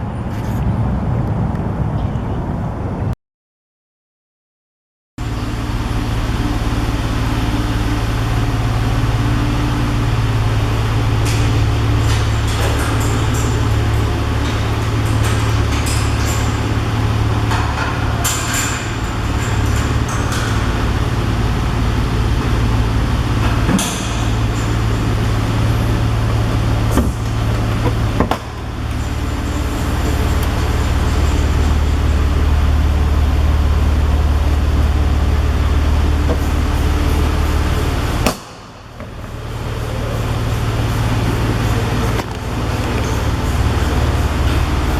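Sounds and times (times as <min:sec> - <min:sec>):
car engine deep drone: 0:05.2 - 0:44.9.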